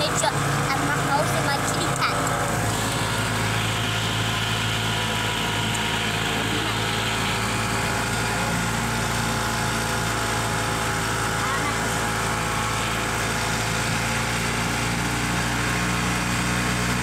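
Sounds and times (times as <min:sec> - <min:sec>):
golf cart motor hum: 0:00.0 - 0:17.0.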